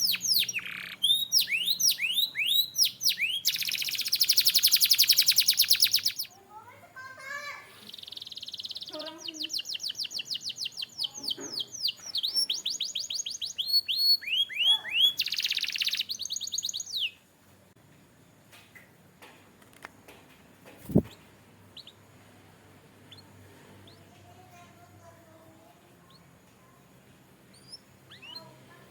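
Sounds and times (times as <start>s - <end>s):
canary singing: 0.0s - 6.5s, 7.8s - 17.3s, 20.8s - 22.2s, 23.0s - 28.9s.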